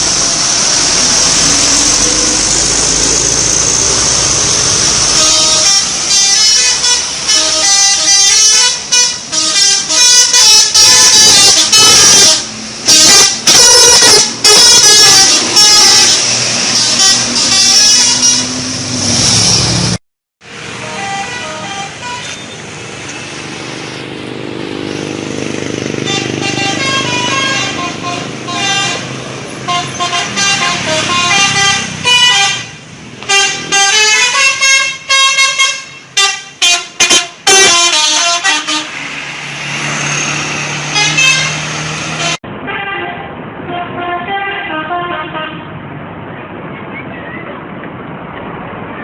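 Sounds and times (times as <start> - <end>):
multi-tone bus horn tunes: 0.0 - 22.7, 24.8 - 45.8.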